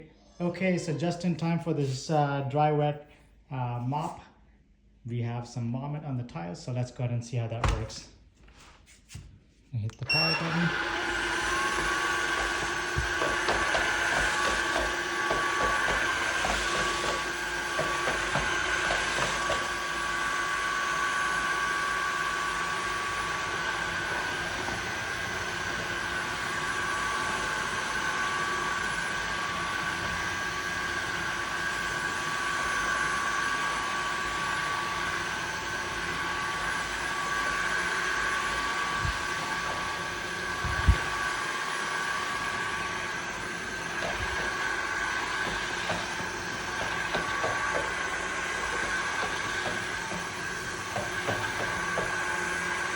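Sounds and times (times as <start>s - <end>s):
vacuum mop motor whine: 10.0s - 52.9s.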